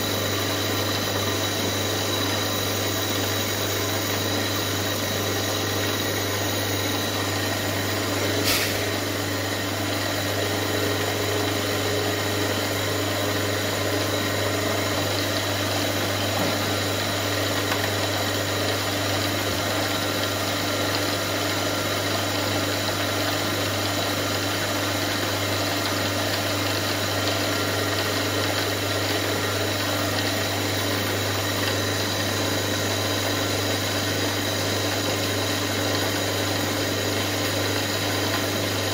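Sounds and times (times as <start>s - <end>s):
drill bit drilling brass: 0.0s - 38.9s
milling machine spindle motor: 0.0s - 38.9s.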